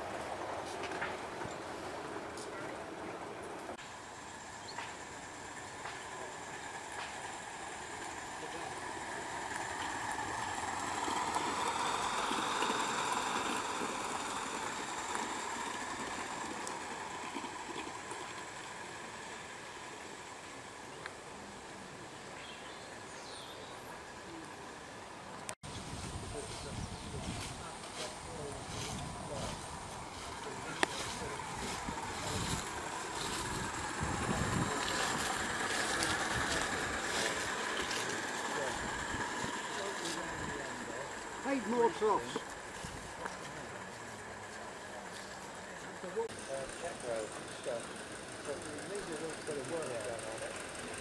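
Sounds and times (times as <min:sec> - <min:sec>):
model train wheels rumbling on rail: 0:00.0 - 0:51.0.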